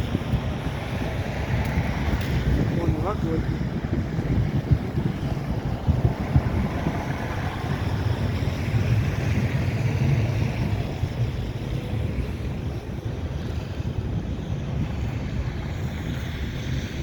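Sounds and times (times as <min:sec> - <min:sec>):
street traffic rumble: 0:00.0 - 0:17.0
wind buffeting microphone: 0:00.0 - 0:17.0.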